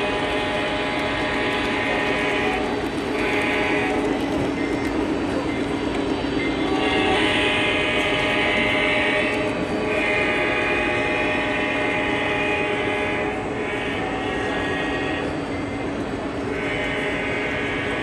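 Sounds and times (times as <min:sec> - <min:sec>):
model trains droning: 0:00.0 - 0:18.0.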